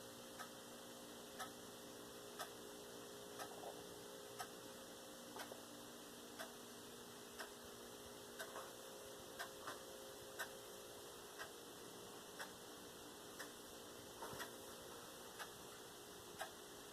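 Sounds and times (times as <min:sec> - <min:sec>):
faint clock ticking: 0:00.0 - 0:16.9
faint low hum: 0:00.0 - 0:16.9.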